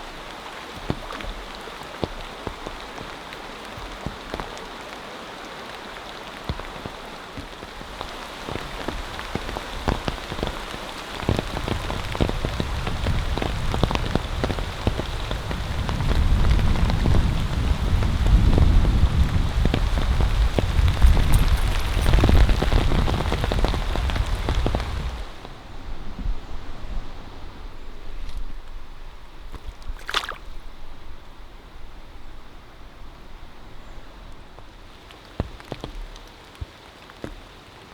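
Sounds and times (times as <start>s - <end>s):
rain falling: 0.0s - 29.5s, 30.6s - 37.9s.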